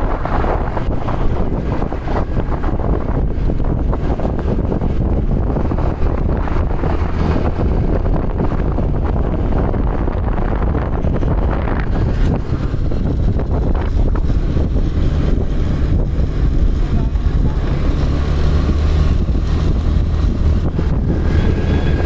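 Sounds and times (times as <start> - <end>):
vehicle rumble: 0.0 - 22.0
wind buffeting microphone: 0.0 - 22.0.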